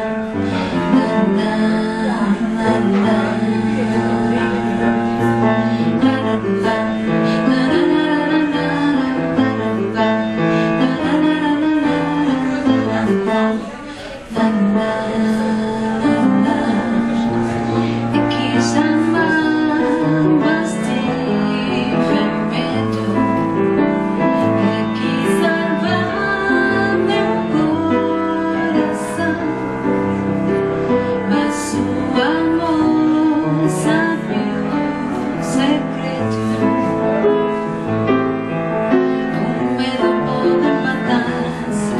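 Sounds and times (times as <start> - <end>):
woman singing: 0.0 - 37.7, 38.4 - 41.9
piano ballad accompaniment: 0.0 - 41.9.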